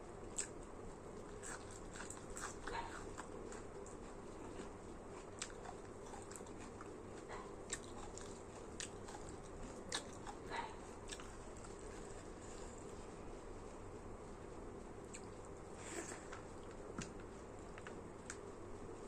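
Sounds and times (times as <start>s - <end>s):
person chewing food: 0.3s - 13.2s, 15.0s - 18.4s.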